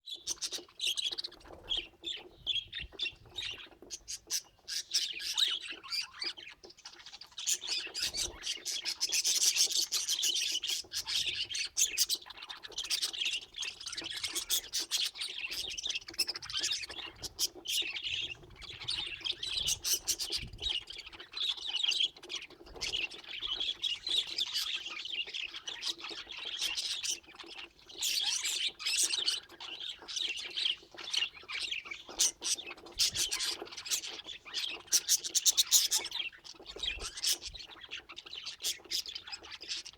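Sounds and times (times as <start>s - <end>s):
budgerigars chattering and warbling: 0.1s - 39.9s.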